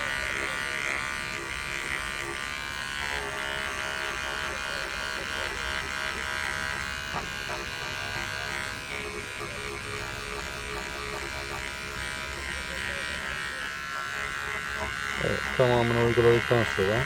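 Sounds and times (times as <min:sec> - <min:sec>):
electric shaver buzzing on fabric: 0:00.0 - 0:17.0.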